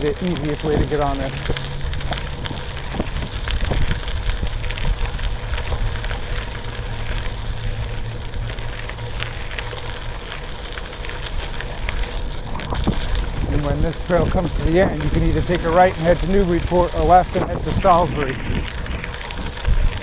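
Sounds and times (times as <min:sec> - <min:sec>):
bicycle tyres rolling on grit: 0:00.0 - 0:20.0
wind rumbling on microphone: 0:00.0 - 0:20.0.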